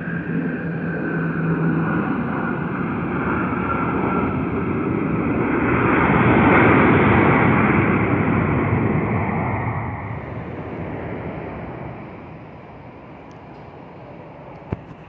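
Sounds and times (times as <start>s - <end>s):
airplane engines passing: 0.0s - 15.0s
faint engine whine: 0.0s - 15.0s.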